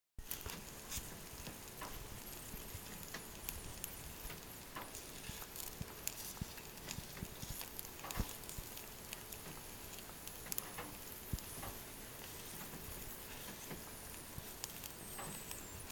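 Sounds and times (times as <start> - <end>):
faint steady hiss: 0.2 - 15.9
food grilling pops and crackles: 0.2 - 15.9.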